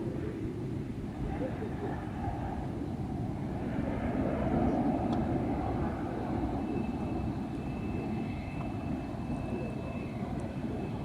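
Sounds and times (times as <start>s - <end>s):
jet engines rumbling: 0.0s - 11.0s
thin steady whine: 0.0s - 11.0s.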